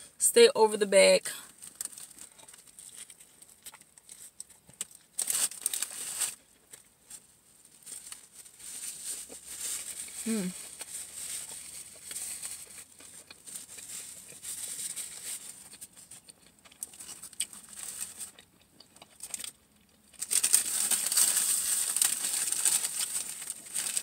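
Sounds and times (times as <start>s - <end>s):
paper wrapper crinkling: 1.4s - 18.4s, 20.2s - 24.0s.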